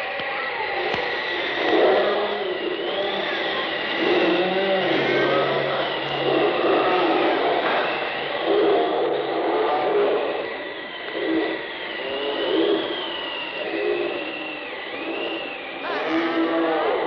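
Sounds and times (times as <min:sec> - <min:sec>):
churning pulsing noise: 0:00.1 - 0:17.0
wavering high wail: 0:00.8 - 0:17.0.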